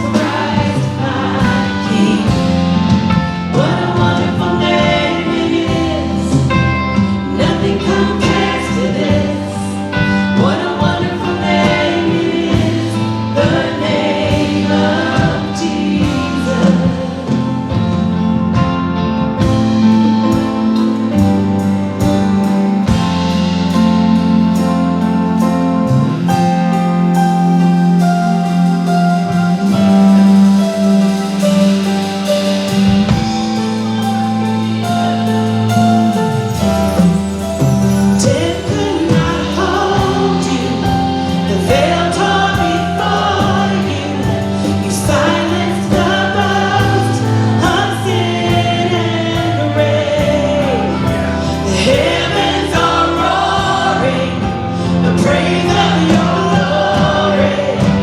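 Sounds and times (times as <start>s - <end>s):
group singing: 0.0s - 58.0s
worship band playing slow song: 0.0s - 58.0s.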